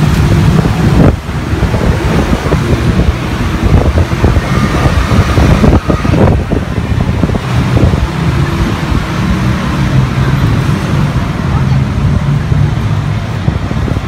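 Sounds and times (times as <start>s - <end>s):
three-wheeler engine and road rumble: 0.0s - 14.0s
wind buffeting microphone: 0.0s - 14.0s.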